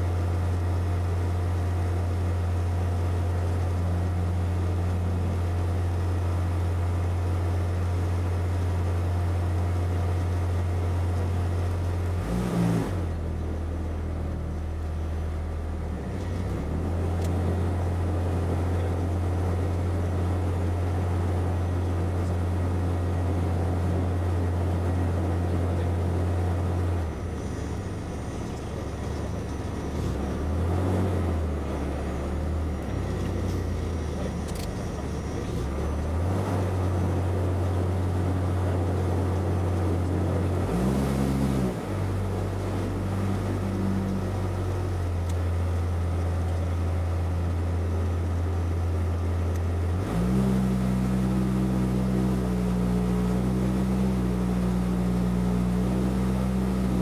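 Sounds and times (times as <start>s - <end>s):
small plane engine from cabin: 0.0s - 57.0s.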